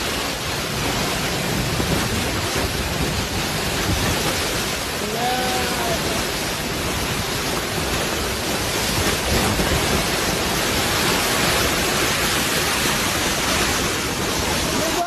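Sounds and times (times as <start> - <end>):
breaking waves: 0.0 - 15.0
storm wind: 0.0 - 15.0
wind buffeting microphone: 0.0 - 15.0.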